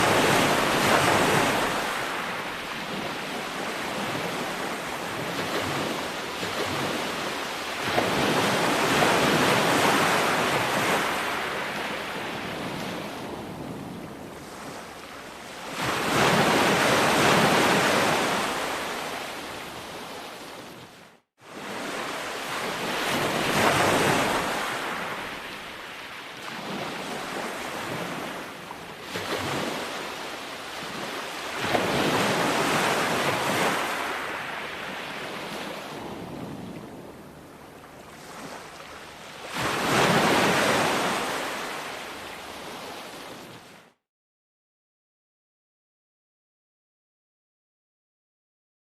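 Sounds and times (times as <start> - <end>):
ocean waves breaking: 0.0 - 44.0.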